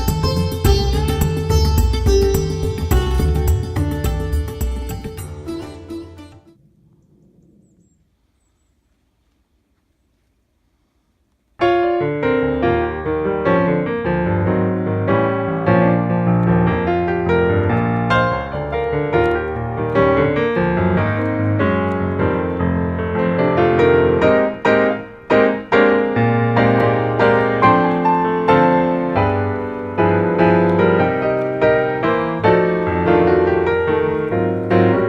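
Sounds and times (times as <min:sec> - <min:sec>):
piano music: 0:00.0 - 0:06.5, 0:11.6 - 0:35.0.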